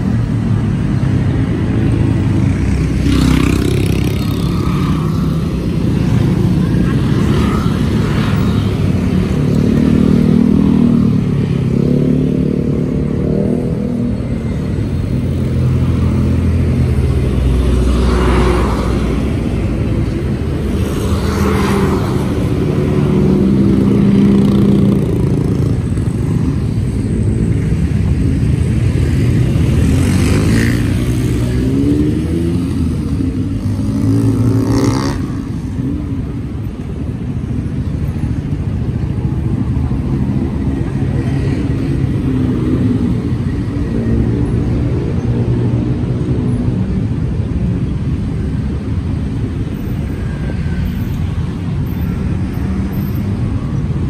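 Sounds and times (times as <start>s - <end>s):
car engines passing by: 0.0s - 54.0s
motorcycle engines revving: 0.0s - 54.0s.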